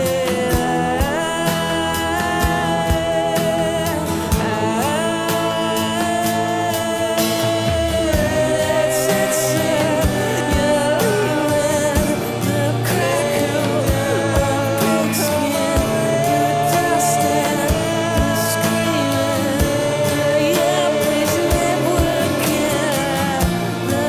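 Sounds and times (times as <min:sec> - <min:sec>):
person singing: 0:00.0 - 0:24.0
sustained instruments: 0:00.0 - 0:24.0.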